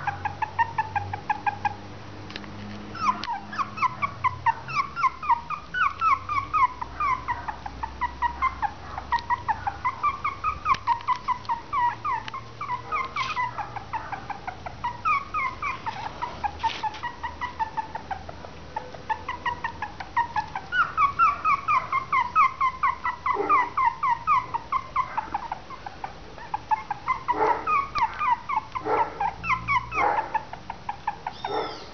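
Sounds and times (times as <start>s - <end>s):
puppies whimpering: 0.0s - 1.8s, 2.9s - 31.9s.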